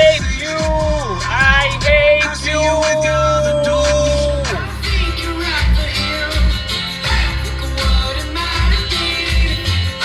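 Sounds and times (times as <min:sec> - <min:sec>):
pop song with sung note: 0:00.0 - 0:10.0.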